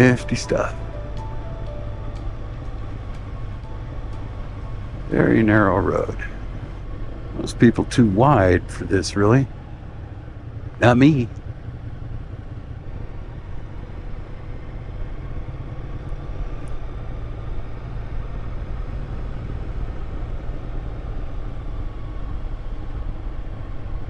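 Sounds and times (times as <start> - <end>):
motorcycle engine drone: 0.0 - 24.0
wind and road noise: 0.0 - 24.0.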